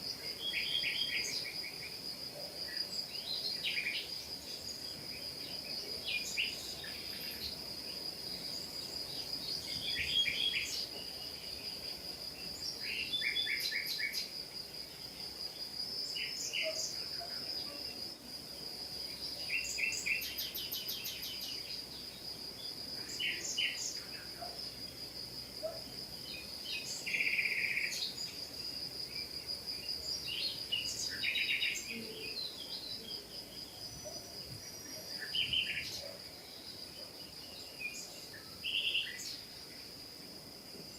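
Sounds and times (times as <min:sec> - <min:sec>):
small birds chirping: 0:02.7 - 0:18.1, 0:19.1 - 0:24.6, 0:25.6 - 0:39.6.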